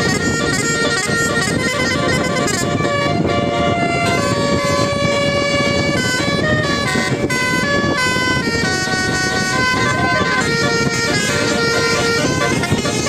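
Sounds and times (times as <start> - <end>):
bus horn playing a tune: 0.0 - 13.0
continuous low rumble: 0.0 - 13.0.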